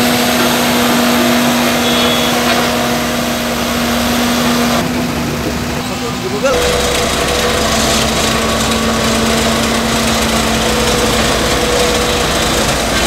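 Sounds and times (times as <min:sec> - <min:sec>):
road roller diesel engine: 0:00.0 - 0:13.0.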